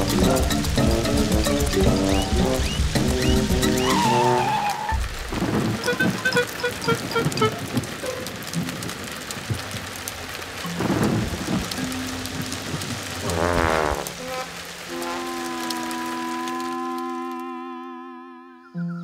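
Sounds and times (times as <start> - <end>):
thunder rumble: 0.0 - 16.6
heavy rain falling: 0.0 - 18.4.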